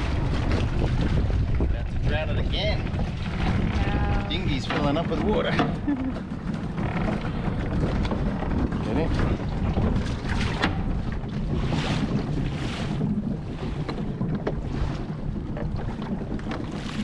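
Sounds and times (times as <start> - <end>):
waves splashing: 0.0 - 17.0
wind buffeting microphone: 0.0 - 17.0.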